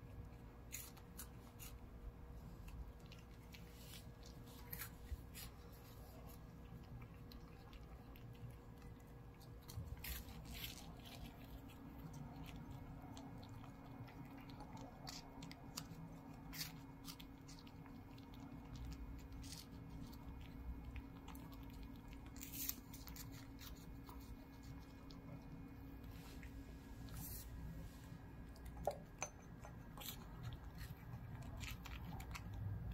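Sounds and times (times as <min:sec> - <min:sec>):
cat chewing food: 0:00.0 - 0:32.9
faint steady hum: 0:00.0 - 0:32.9.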